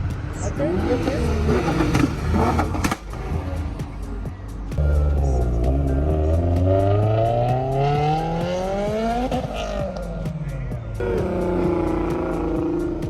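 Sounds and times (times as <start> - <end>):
car engine accelerating hard: 0.6 - 4.3, 5.5 - 10.3, 11.0 - 13.0.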